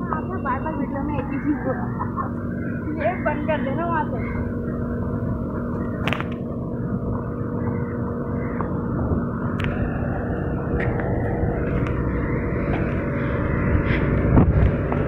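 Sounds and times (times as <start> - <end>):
faint steady hum: 0.0 - 15.0
low mechanical drone: 0.0 - 15.0.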